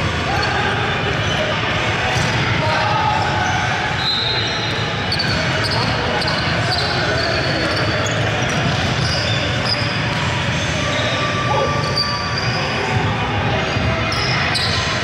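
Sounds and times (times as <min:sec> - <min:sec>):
players' voices: 0:00.0 - 0:15.0
sneakers squeaking: 0:00.3 - 0:02.4, 0:03.1 - 0:13.0, 0:13.6 - 0:15.0.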